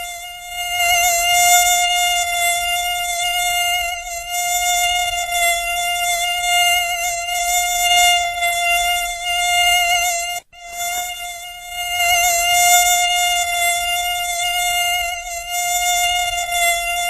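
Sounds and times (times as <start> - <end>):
mosquito wing whine: 0.0 - 17.0.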